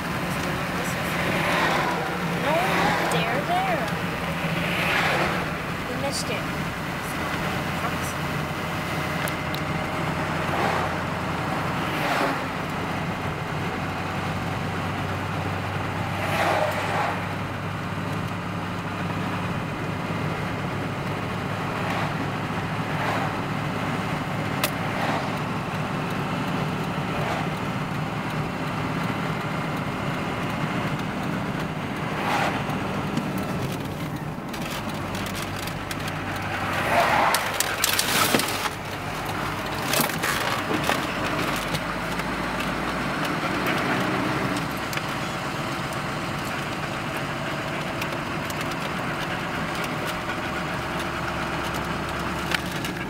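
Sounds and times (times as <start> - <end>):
car engine and road noise: 0.0 - 53.0
vehicles whooshing past: 0.0 - 53.0.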